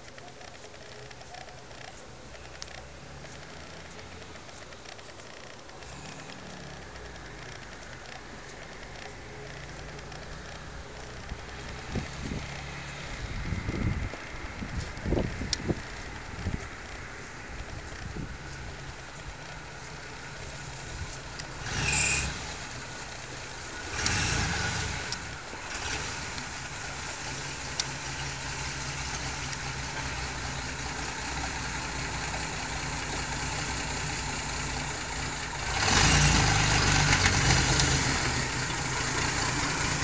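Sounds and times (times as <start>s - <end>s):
car engine rumbling: 0.0s - 40.0s.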